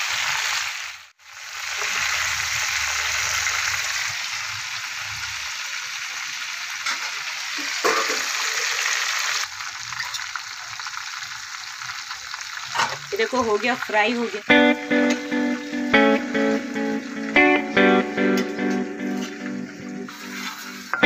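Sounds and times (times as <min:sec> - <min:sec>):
oil sizzling in a pan: 0:00.0 - 0:21.0.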